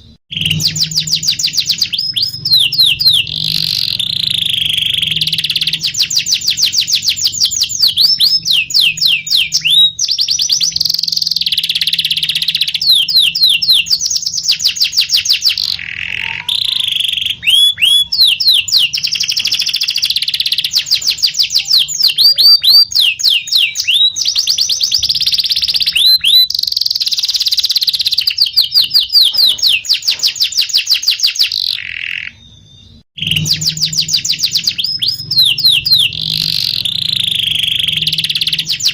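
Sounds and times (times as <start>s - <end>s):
canary singing rolling trills: 0.0s - 38.9s.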